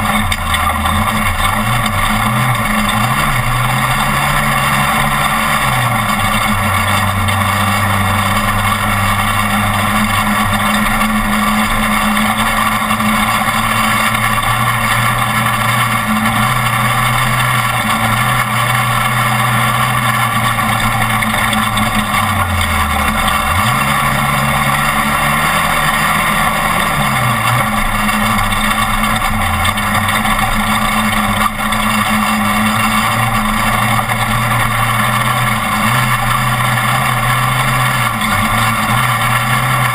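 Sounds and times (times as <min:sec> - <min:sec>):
road and drivetrain noise: 0:00.0 - 0:39.9
truck engine running hard: 0:00.0 - 0:39.9.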